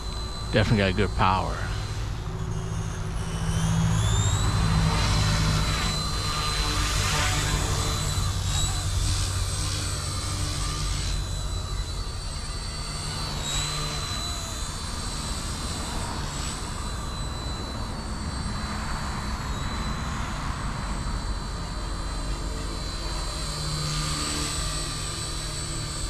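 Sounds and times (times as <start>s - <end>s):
rc helicopter motor whine: 0.0s - 26.0s.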